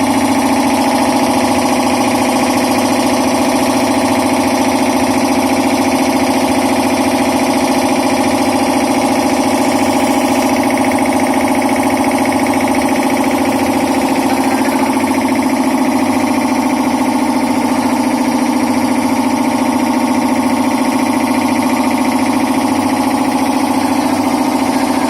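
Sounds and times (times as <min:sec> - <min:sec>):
air compressor droning: 0:00.0 - 0:25.0.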